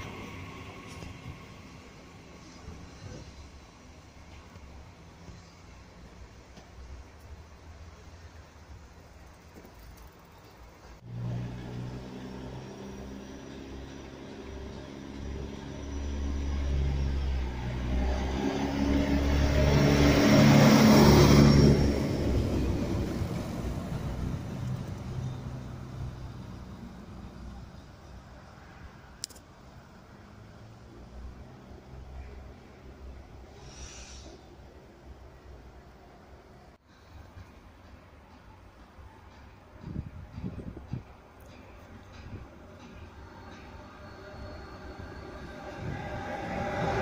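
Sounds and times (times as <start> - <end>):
diesel railcar passing: 0.0 - 47.0.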